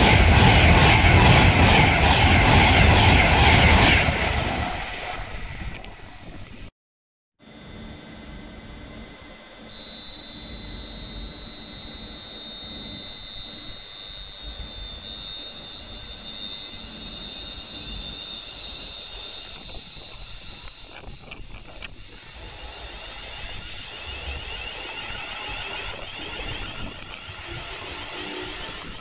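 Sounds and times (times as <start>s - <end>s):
electric train high-pitched whine: 0.0s - 6.5s, 7.4s - 29.0s.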